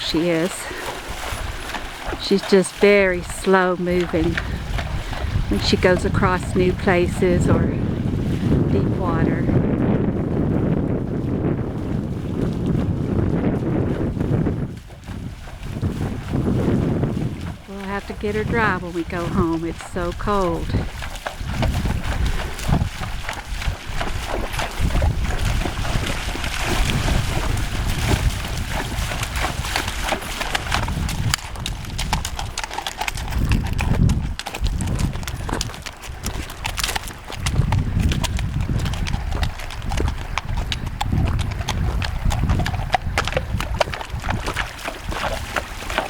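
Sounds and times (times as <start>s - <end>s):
hooves splashing through water: 0.0s - 46.0s
wind buffeting microphone: 0.0s - 46.0s.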